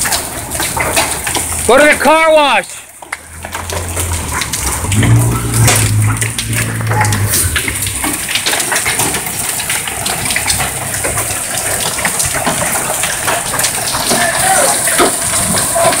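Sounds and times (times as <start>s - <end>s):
hailstones clicking on hard surfaces: 0.0s - 16.0s
heavy rain: 0.0s - 16.0s.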